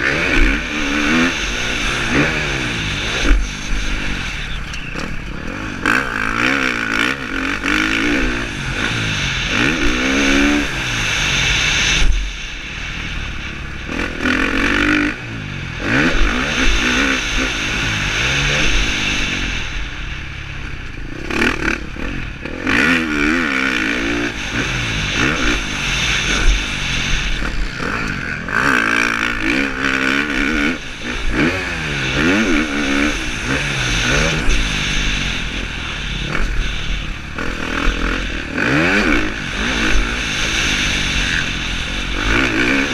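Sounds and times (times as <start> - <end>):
motorcycle engine revving: 0.0 - 42.9
rushing noise and rattle: 0.0 - 42.9.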